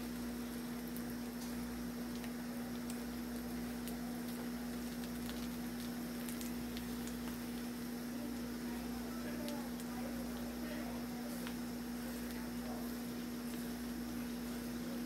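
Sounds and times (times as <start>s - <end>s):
food sizzling in skillet: 0.0s - 15.0s
spatula turning food: 0.0s - 15.0s
steady low hum: 0.0s - 15.0s.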